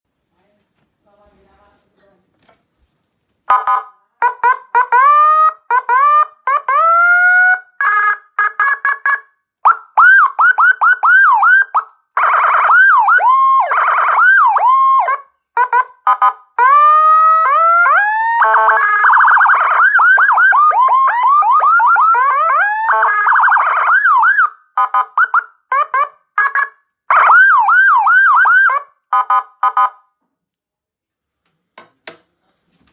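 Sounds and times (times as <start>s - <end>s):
electronic siren wails and yelps: 3.5s - 30.0s.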